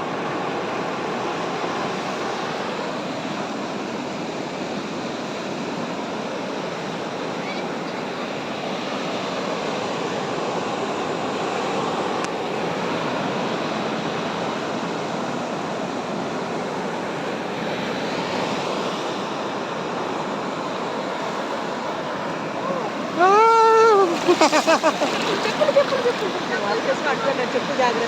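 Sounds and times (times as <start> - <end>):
surf washing onto beach: 0.0 - 28.0.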